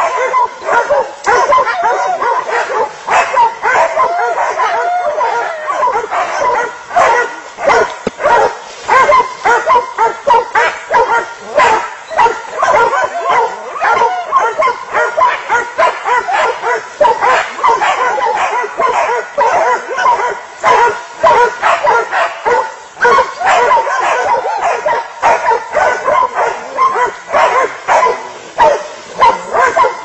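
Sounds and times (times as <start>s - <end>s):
dogs barking and yelping: 0.0s - 30.0s.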